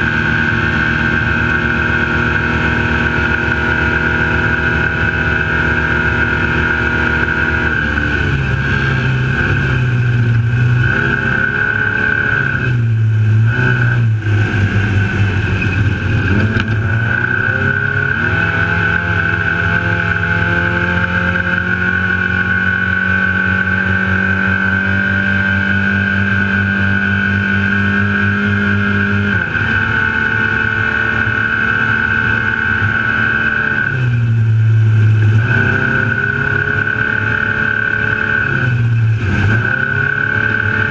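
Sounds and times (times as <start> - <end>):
high whine: 0.0 - 40.9
truck engine revving: 0.0 - 40.9.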